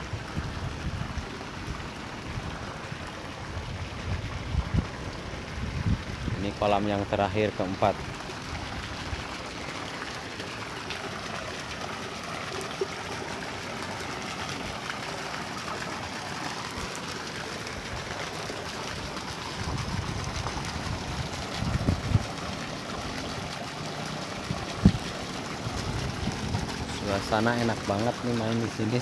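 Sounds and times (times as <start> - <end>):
water flowing into pond: 0.0 - 29.0.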